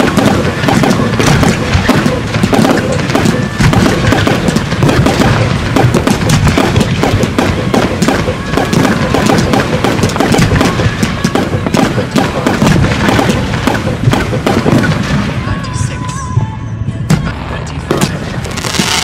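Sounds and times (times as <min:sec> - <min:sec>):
fireworks cakes firing: 0:00.0 - 0:16.2, 0:17.1 - 0:19.0
music playing: 0:00.0 - 0:19.0.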